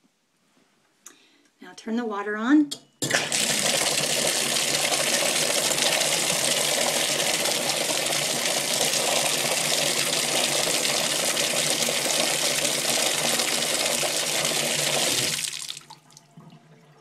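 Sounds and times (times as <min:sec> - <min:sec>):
bathtub faucet running: 0:03.0 - 0:17.0
water splashing into tub: 0:03.0 - 0:17.0.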